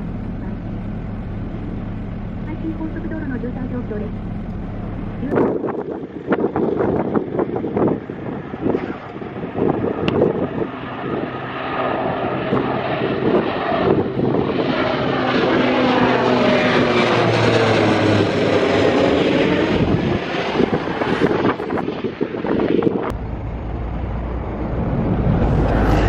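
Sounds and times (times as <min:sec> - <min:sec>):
turboprop plane passing overhead: 0:00.0 - 0:26.0.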